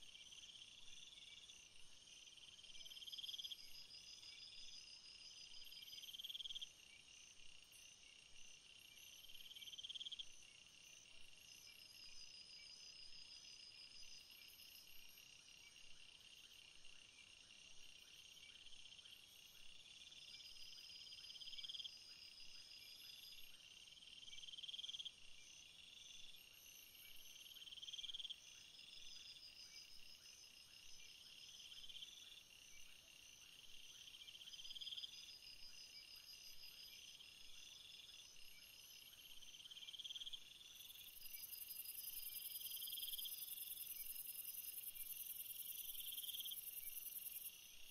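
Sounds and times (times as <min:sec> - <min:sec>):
night insects trilling: 0:00.1 - 0:47.9.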